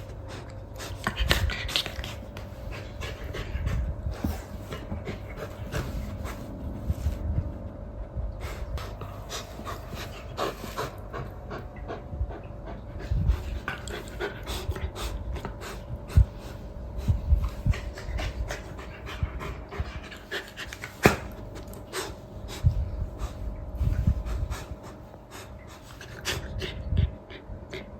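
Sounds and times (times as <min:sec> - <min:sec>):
dog panting: 0:00.0 - 0:07.2, 0:08.4 - 0:27.9
faint steady hum: 0:00.0 - 0:27.9.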